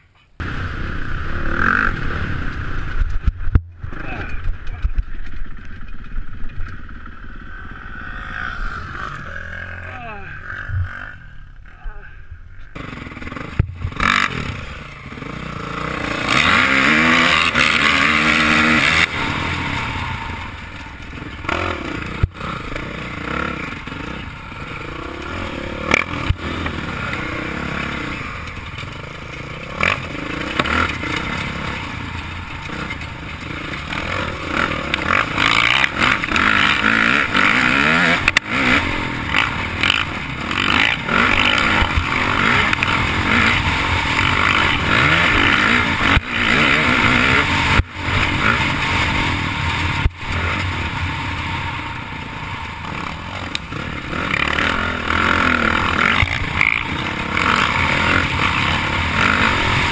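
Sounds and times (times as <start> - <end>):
dirt bike engine revving: 0.4 - 4.8, 5.4 - 11.8, 12.6 - 59.9.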